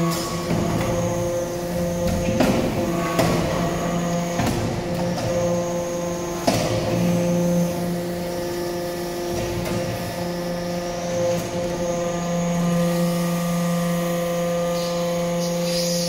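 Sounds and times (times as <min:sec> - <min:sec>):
hydraulic pump hum: 0:00.0 - 0:16.0.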